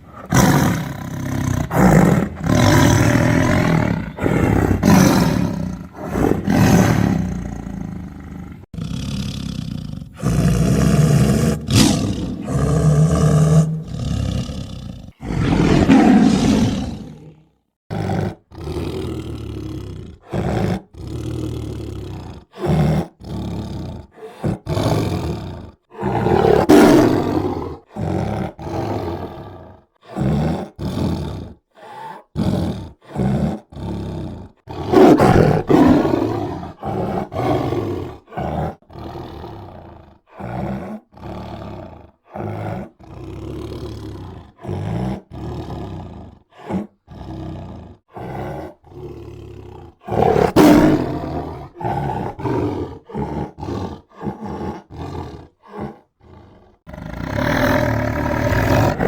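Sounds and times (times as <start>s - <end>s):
tiger roaring and growling: 0.0s - 59.0s.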